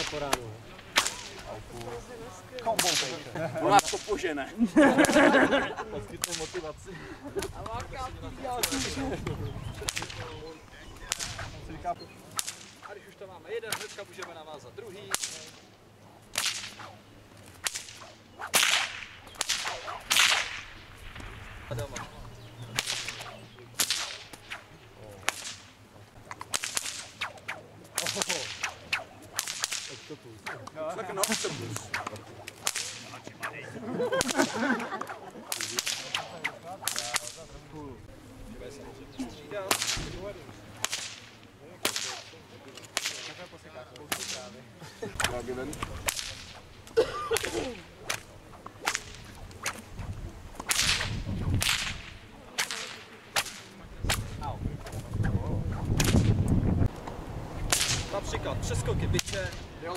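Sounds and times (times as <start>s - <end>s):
bullwhip cracking: 0.0s - 2.0s, 2.6s - 4.2s, 5.0s - 5.4s, 6.2s - 6.7s, 8.6s - 9.1s, 9.7s - 14.4s, 15.1s - 37.5s, 39.6s - 57.0s, 57.6s - 58.4s, 59.2s - 59.7s.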